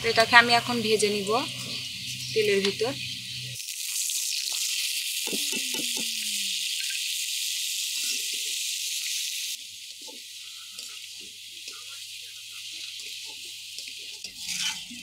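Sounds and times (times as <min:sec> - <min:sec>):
rice sizzling in hot oil: 0:00.0 - 0:15.0.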